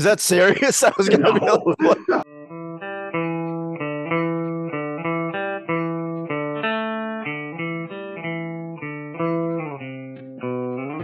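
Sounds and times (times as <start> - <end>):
plucked guitar melody: 1.0 - 11.0.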